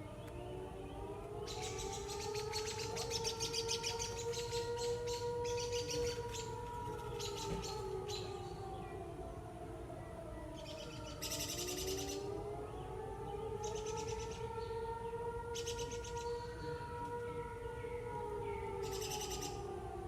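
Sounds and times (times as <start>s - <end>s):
warning sirens wailing: 0.0s - 20.0s.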